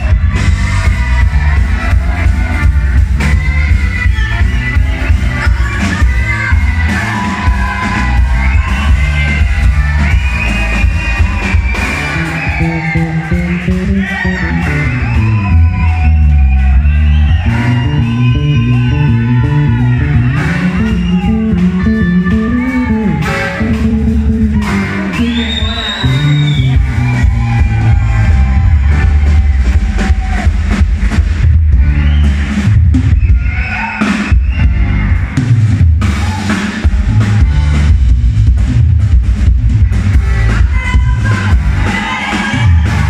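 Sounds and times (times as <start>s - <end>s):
electric guitar: 0.0s - 43.0s
live rock band playing: 0.0s - 43.0s.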